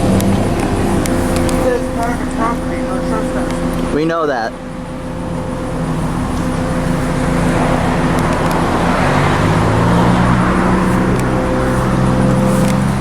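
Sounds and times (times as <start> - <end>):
vehicle engine running: 0.0 - 13.0
vehicle passing road noise: 0.0 - 13.0.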